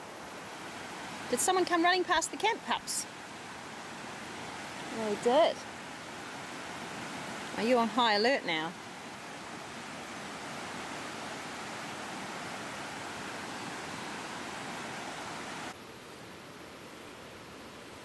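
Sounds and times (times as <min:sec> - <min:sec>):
rushing water hiss: 0:00.0 - 0:18.0.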